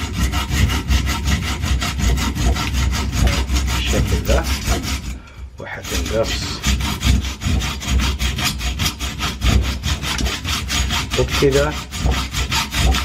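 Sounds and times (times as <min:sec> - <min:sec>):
hacksaw cutting through wire: 0:00.0 - 0:05.2, 0:05.8 - 0:13.0.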